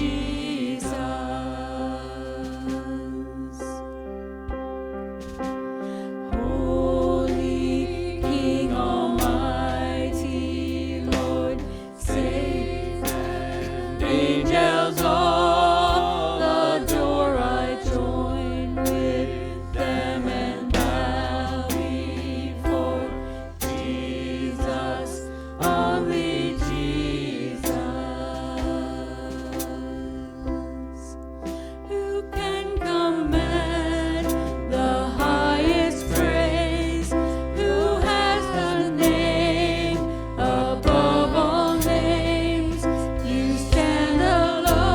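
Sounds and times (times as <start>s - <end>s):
people singing: 0.0s - 4.0s, 6.2s - 44.9s
deep bass: 0.0s - 44.9s.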